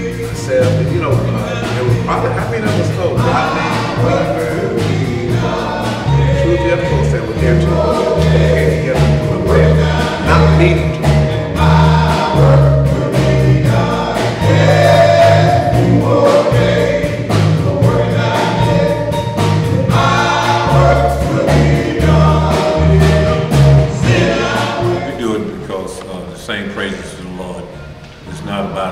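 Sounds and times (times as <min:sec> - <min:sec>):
deep bass line: 0:00.0 - 0:25.6
men singing in harmony: 0:00.0 - 0:25.7
steady beat: 0:00.0 - 0:25.8.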